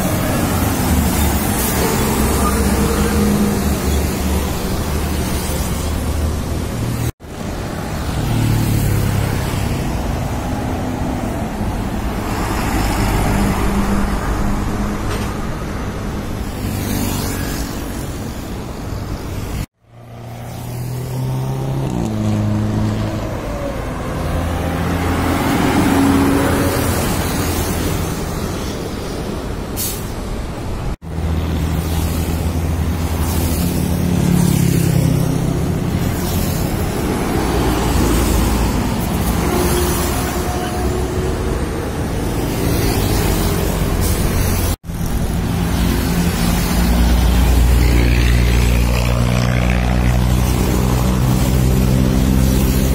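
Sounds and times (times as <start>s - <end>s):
tyre and traffic noise: 0.0s - 52.9s
vehicles passing on highway: 0.0s - 52.9s.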